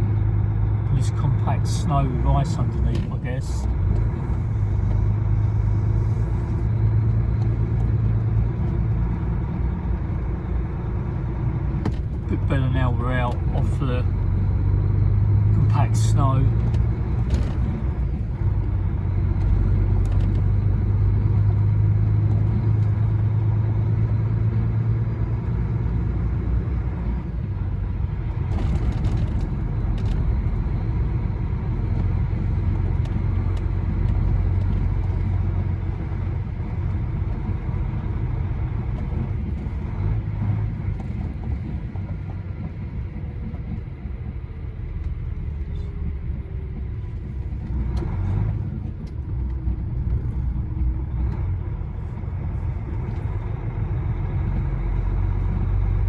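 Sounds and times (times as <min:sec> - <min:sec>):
diesel engine and tyres hum: 0:00.0 - 0:56.0.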